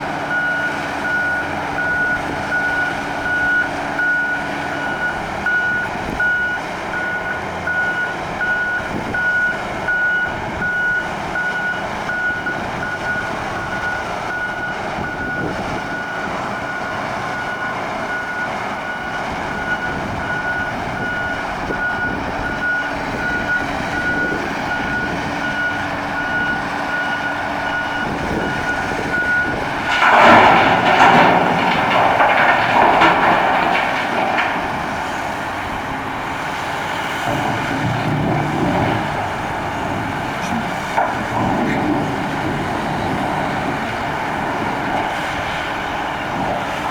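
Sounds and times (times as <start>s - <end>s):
diesel engine working: 0.0s - 46.9s.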